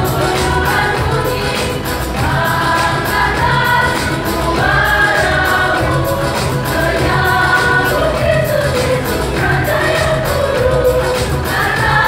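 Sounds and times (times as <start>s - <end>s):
accompaniment with steady beat: 0.0s - 12.0s
church choir singing: 0.0s - 12.0s.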